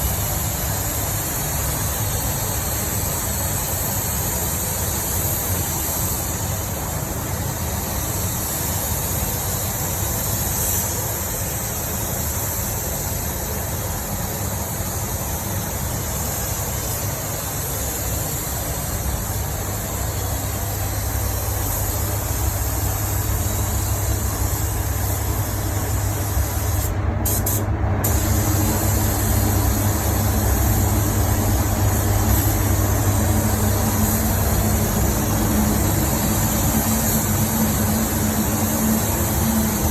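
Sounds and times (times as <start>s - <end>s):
air hissing: 0.0s - 39.9s.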